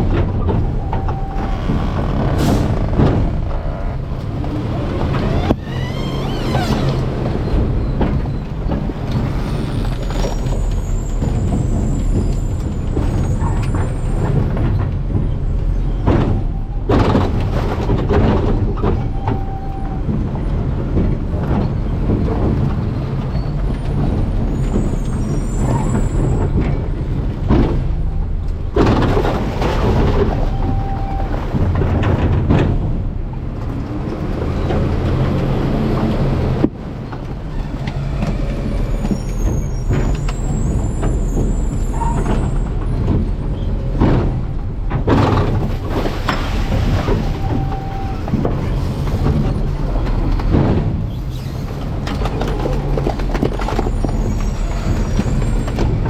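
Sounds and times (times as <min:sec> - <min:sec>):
garbage truck engine rumble: 0:00.0 - 0:56.0.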